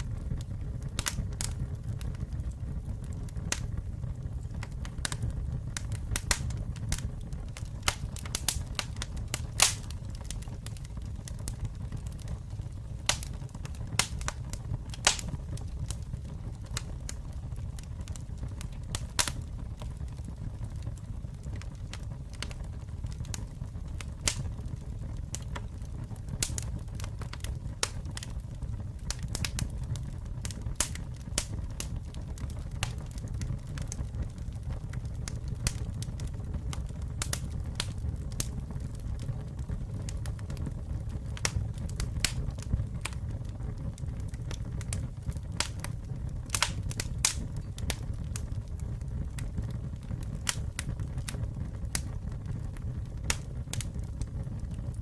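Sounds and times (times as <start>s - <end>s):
fire crackles and pops: 0.0s - 55.0s
wood fire rumbling: 0.0s - 55.0s.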